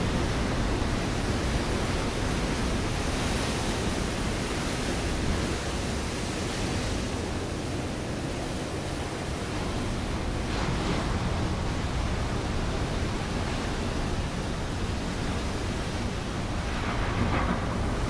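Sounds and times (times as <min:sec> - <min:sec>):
waves breaking on rocky shore: 0:00.0 - 0:18.0.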